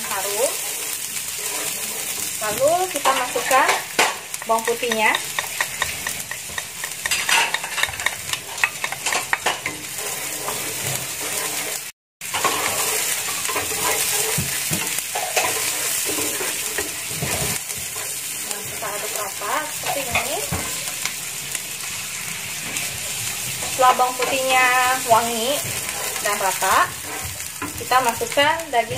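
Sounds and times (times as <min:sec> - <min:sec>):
onions sizzling in hot oil: 0:00.0 - 0:28.9
wooden spatula scraping pan: 0:00.5 - 0:20.8, 0:22.6 - 0:28.4.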